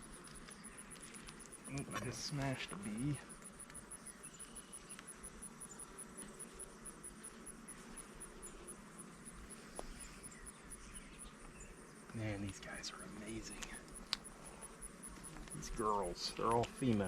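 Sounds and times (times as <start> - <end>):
high pulsing insect chirp: 0.0 - 17.0
honeybees humming: 0.0 - 17.0.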